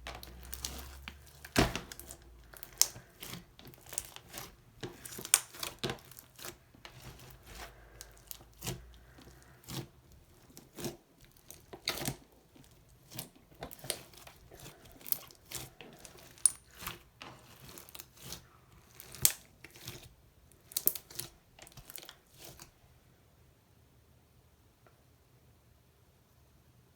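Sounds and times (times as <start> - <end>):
slime crackling and popping: 0.0 - 22.7.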